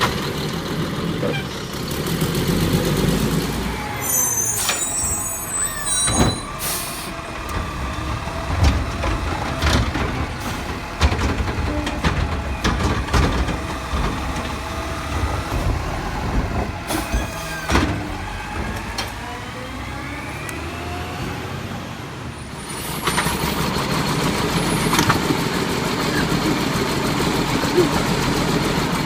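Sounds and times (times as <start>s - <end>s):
garbage truck engine running: 0.0s - 29.0s.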